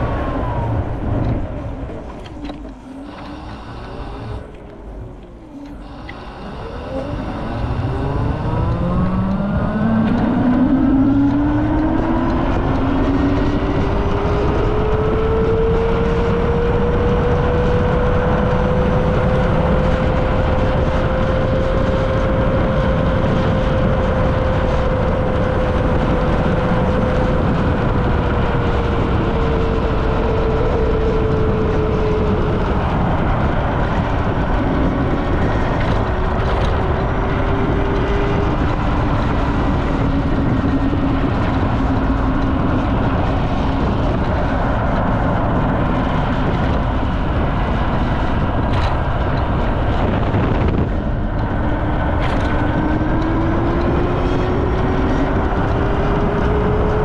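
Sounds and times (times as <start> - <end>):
electric motorcycle motor whine: 0.0 - 57.0
wind rushing on microphone: 0.0 - 57.0.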